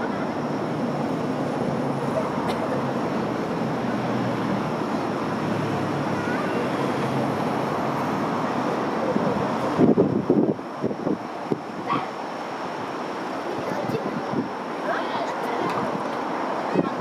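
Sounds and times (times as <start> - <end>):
murmur of crowd talking: 0.0 - 4.2, 4.8 - 12.3, 13.2 - 17.0.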